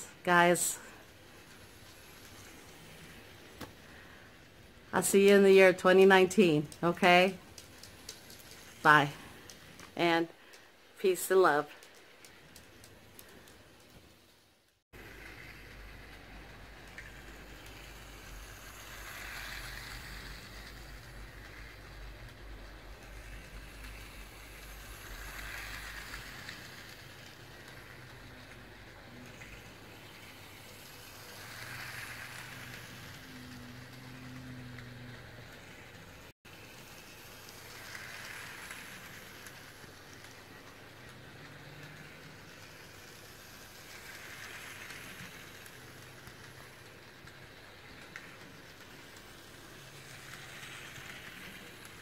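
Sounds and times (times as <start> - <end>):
toy train rolling on track: 0.0 - 52.0.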